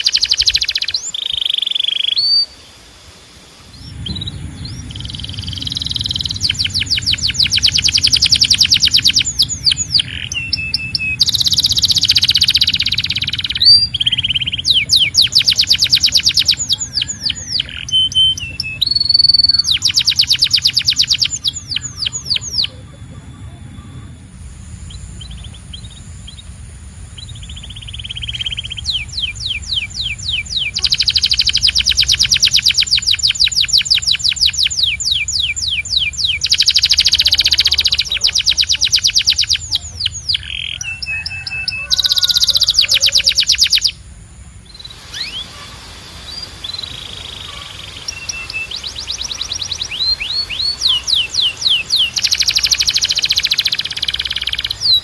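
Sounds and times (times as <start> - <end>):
canary singing in trills: 0.0 - 55.0.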